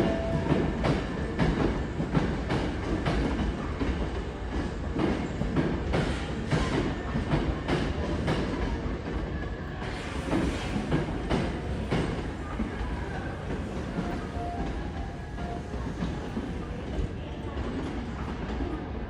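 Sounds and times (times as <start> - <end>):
steady train rumble: 0.0 - 19.0.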